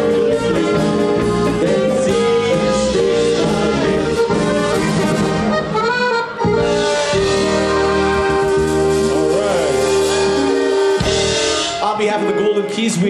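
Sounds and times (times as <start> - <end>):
accordions playing: 0.0 - 13.0
keyboards: 0.0 - 13.0
live band music: 0.0 - 13.0
trumpet: 0.0 - 13.0.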